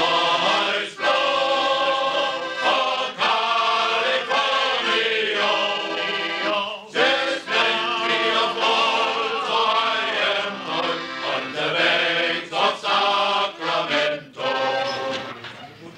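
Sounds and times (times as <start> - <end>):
men's choir singing: 0.0 - 15.4.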